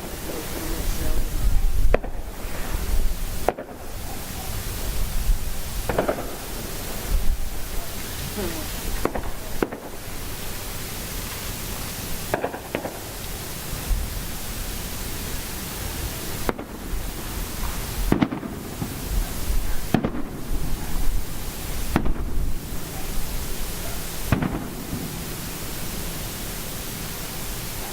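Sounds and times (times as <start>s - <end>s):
fireworks bangs: 0.0s - 27.9s
steady background hiss: 0.0s - 27.9s.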